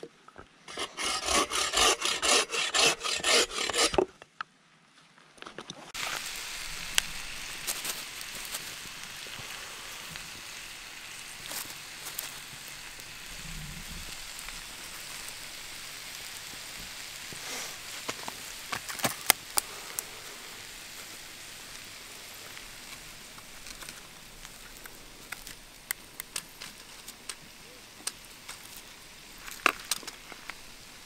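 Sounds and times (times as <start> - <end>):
vegetables sizzling in a skillet: 6.0 - 31.0.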